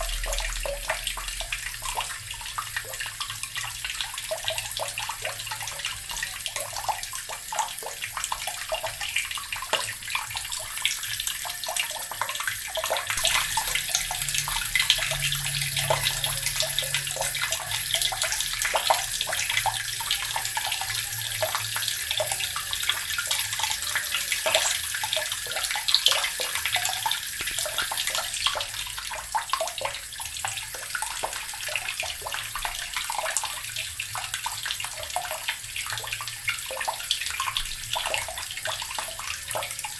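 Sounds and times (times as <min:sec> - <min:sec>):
tap water splashing into basin: 0:00.0 - 0:39.9.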